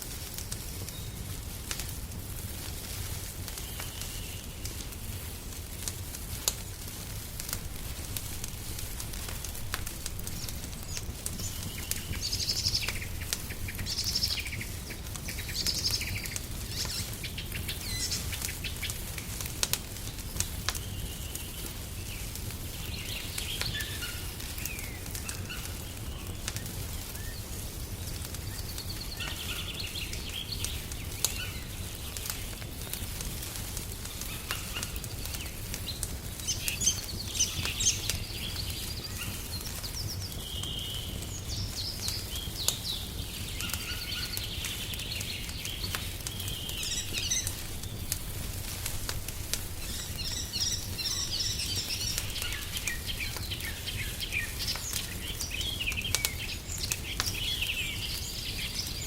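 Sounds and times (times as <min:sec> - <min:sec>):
wood fire crackling: 0:00.0 - 0:59.0
songbirds chirping and trilling: 0:07.5 - 0:59.0.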